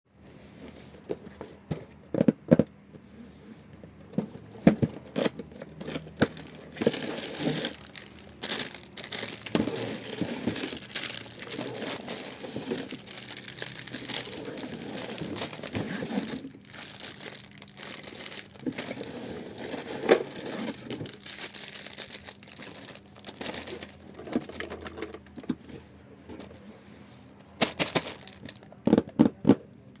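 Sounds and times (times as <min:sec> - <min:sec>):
plastic bags and cardboard crinkling: 0:03.2 - 0:29.4.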